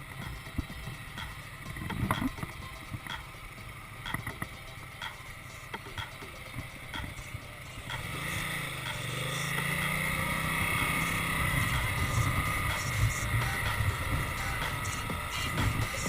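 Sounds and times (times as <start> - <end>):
motorcycle engine accelerating: 0.0 - 16.0
wind and road noise: 0.0 - 16.0.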